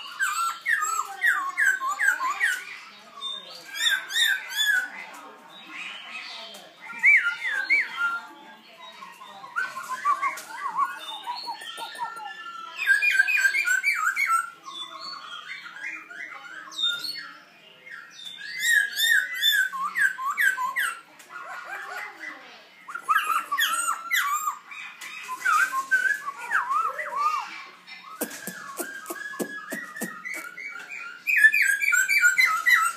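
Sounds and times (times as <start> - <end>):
bird song whistling and chattering: 0.0 - 32.9.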